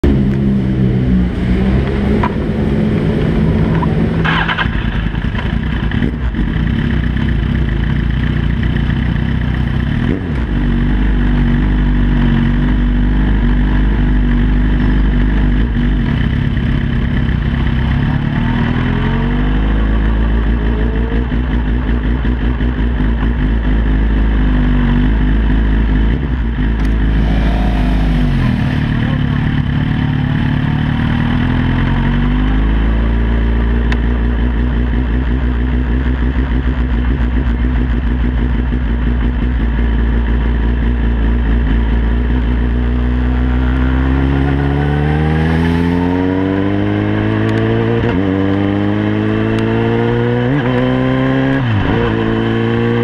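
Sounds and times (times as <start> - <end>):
motorcycle engine at low revs: 0.0 - 53.0.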